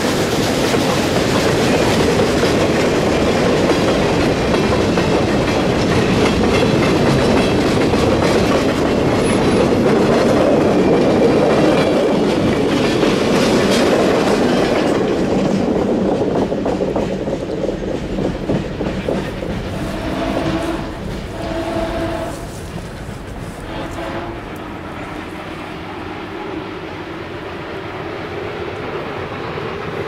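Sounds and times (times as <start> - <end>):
steel wheels clacking over rail joints: 0.0 - 25.6
freight train rolling past: 0.0 - 30.0.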